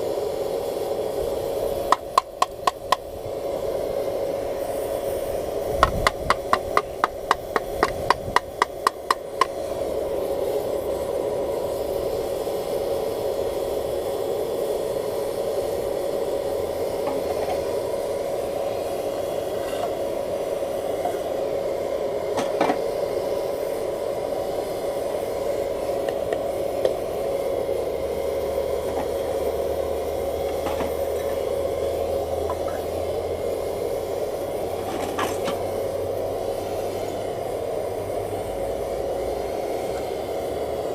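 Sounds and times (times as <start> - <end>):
blower whine and rushing air: 0.0 - 40.9.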